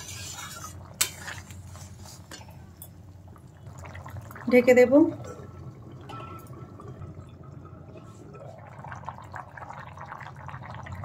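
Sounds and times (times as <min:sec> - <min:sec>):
gravy bubbling and popping: 0:00.0 - 0:11.0.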